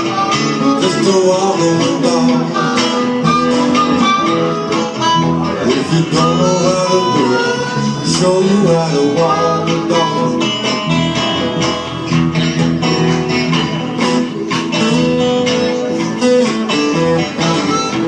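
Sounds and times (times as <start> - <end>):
small band playing with guitars: 0.0 - 18.0.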